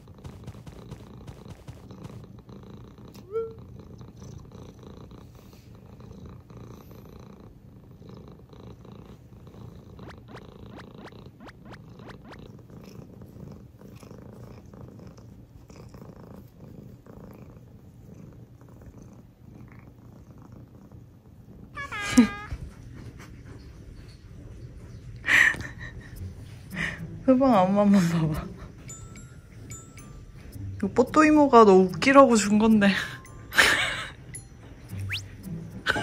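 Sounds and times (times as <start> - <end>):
cat purring: 0.0 - 34.2.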